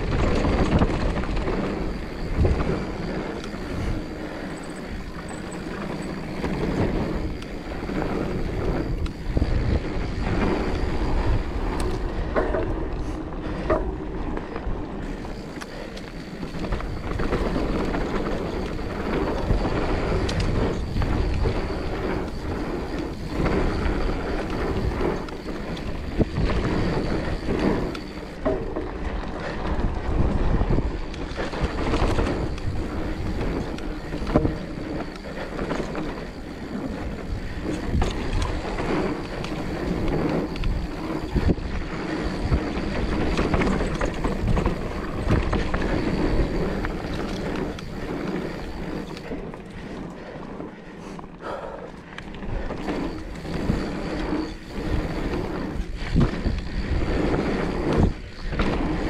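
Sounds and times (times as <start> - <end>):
bike tyre rumble on dirt: 0.0 - 59.0
wind buffeting microphone: 0.0 - 59.0.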